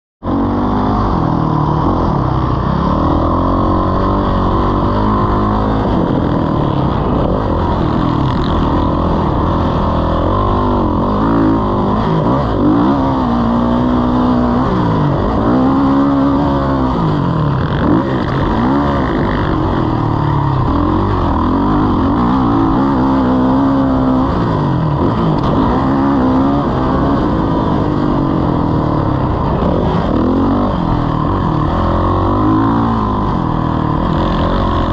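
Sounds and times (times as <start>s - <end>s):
motocross bike engine revving: 0.2s - 34.9s.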